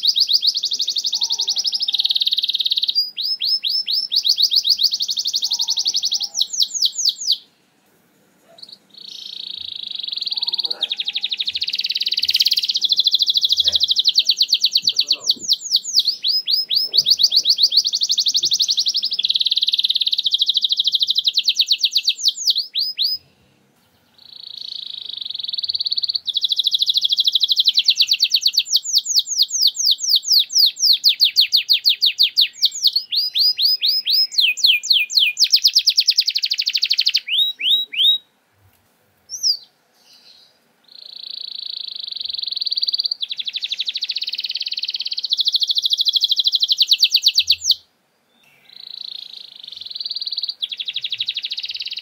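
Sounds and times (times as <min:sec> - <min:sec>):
canary singing rolling trills: 0:00.0 - 0:07.6, 0:08.4 - 0:38.3, 0:39.3 - 0:52.0.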